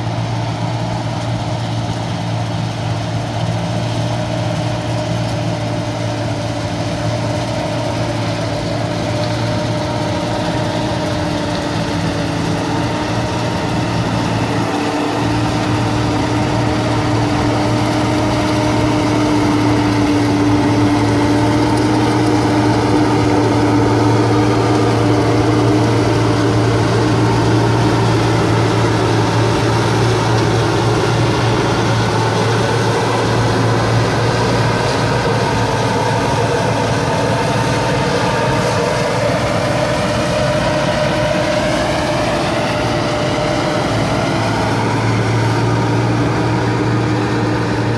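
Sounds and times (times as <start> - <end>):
combine harvester engine drone: 0.0 - 47.9.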